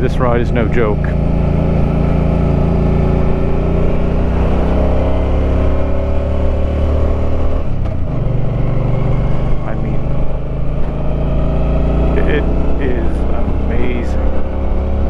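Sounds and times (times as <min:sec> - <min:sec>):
motorcycle engine climbing: 0:00.0 - 0:15.0.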